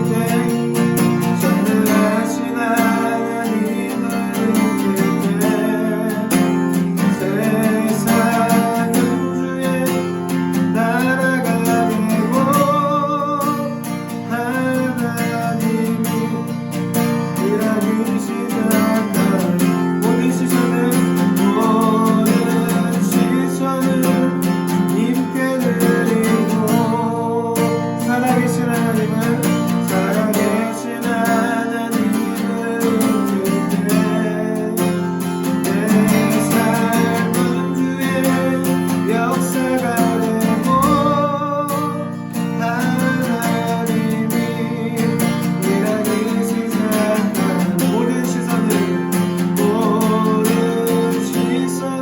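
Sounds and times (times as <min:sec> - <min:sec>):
acoustic guitar strumming: 0:00.0 - 0:52.0
person singing: 0:00.0 - 0:52.0.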